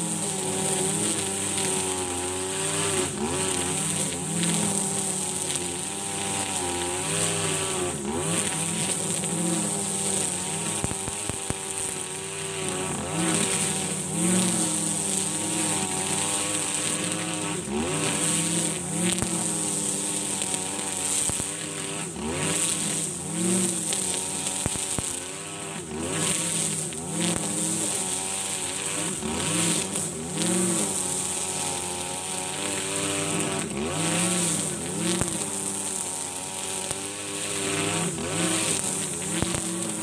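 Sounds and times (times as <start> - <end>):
brush cutter engine at full throttle: 0.0 - 40.0.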